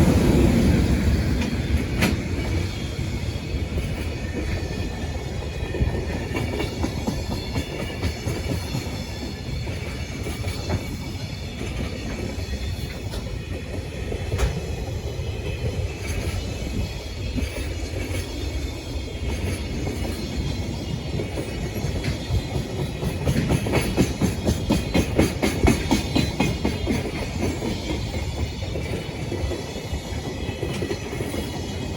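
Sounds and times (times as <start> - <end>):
train wheels clattering over rails: 0.0 - 31.9.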